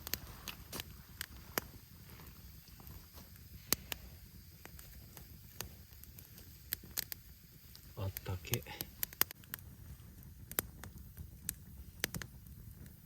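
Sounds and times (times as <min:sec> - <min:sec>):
burning wood popping: 0:00.0 - 0:13.0
campfire crackling: 0:00.0 - 0:13.0.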